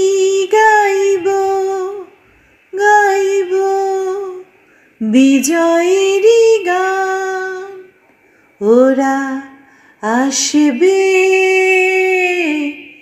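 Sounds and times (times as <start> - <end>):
woman singing unaccompanied: 0.0 - 7.9, 8.6 - 13.0.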